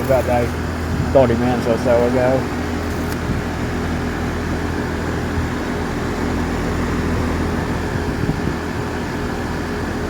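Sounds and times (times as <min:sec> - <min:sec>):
fan whoosh: 0:00.0 - 0:10.0
heat pump compressor hum: 0:00.0 - 0:10.0.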